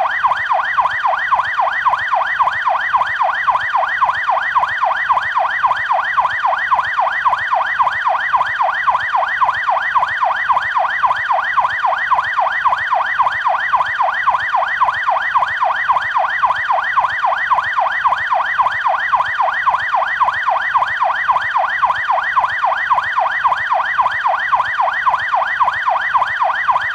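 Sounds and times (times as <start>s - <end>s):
police siren yelping: 0.0s - 26.9s.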